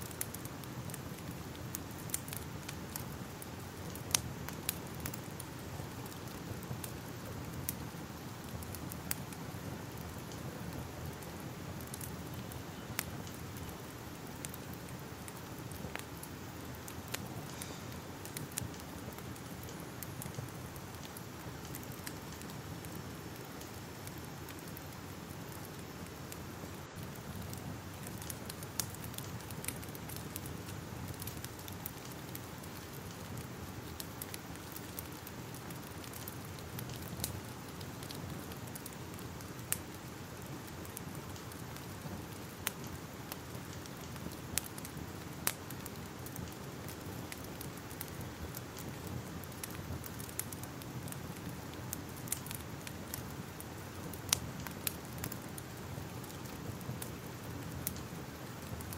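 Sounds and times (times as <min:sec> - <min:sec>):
fire burning: 0:00.0 - 0:58.9.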